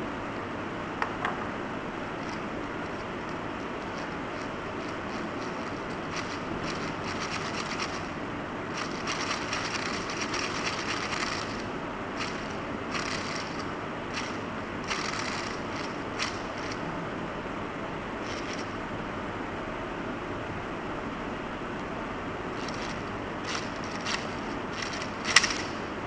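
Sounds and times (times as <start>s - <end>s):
steady hiss: 1.6s - 19.5s, 22.4s - 26.0s.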